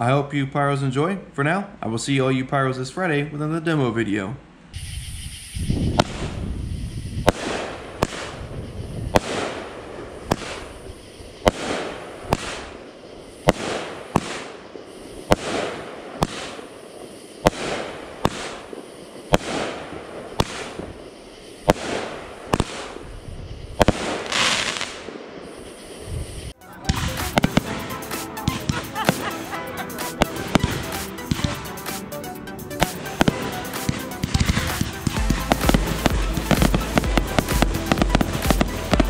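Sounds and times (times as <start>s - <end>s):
firework reports: 0.0s - 39.0s
firework crackling: 4.7s - 39.0s.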